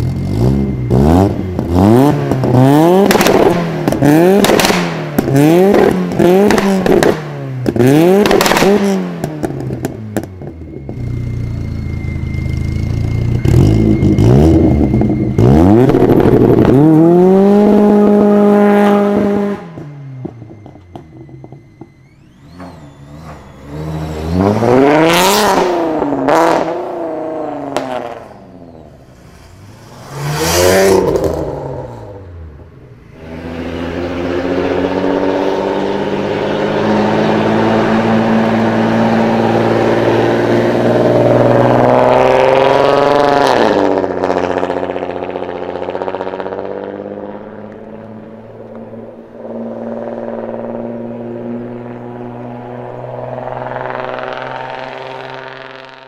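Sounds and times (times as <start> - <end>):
car engines revving and accelerating: 0.0 - 56.0.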